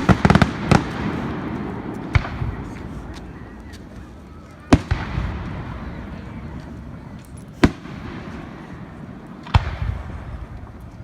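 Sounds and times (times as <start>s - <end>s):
fireworks bangs: 0.0s - 11.0s
fireworks crackling pops: 0.0s - 11.0s.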